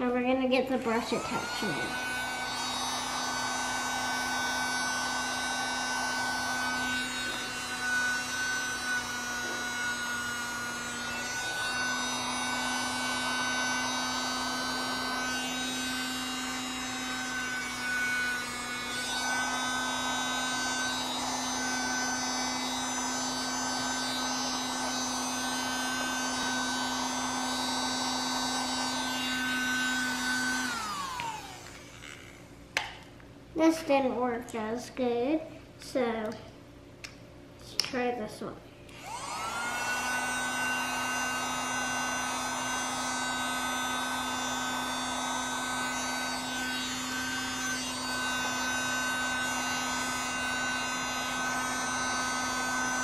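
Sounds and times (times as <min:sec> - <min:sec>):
handheld vacuum motor whine: 0:00.0 - 0:33.1, 0:38.9 - 0:53.0.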